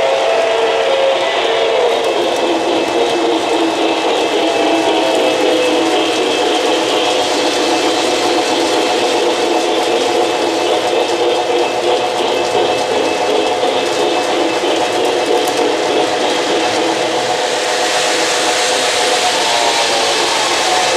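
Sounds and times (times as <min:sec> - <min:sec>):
model train motors whirring: 0:00.0 - 0:20.9
wheels rattling on rails: 0:00.0 - 0:20.9.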